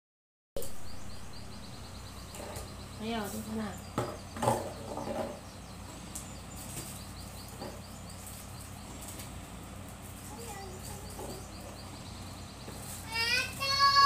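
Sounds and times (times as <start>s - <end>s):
bird chirping: 0.6s - 14.0s
steady low hum: 0.6s - 14.0s.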